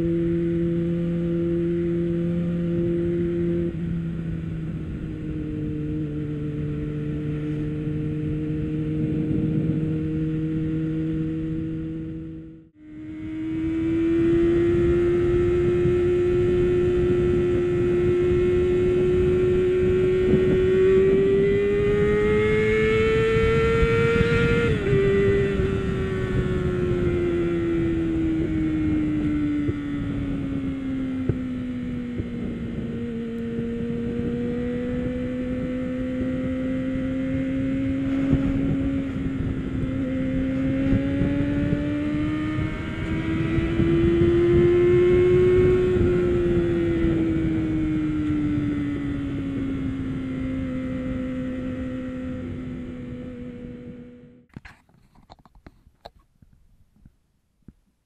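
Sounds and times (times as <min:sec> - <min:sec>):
motorcycle engine revving high: 0:00.0 - 0:54.5
wind rumble on microphone: 0:00.0 - 0:57.8.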